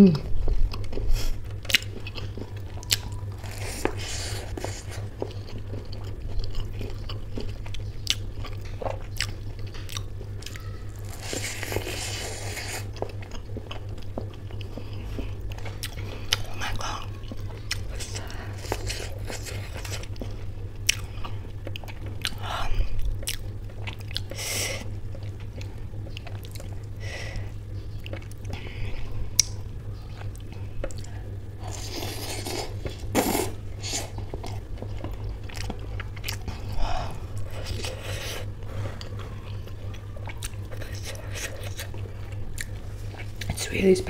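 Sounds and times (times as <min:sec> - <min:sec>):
steady low hum: 0:00.0 - 0:44.0
soft chewing: 0:00.2 - 0:44.0
crisp pastry crunching: 0:00.4 - 0:27.0, 0:29.2 - 0:43.8.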